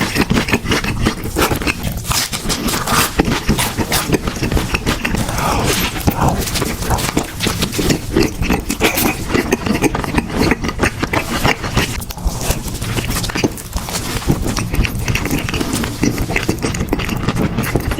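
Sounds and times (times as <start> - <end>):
chewing and mouth smacking: 0.0 - 17.9.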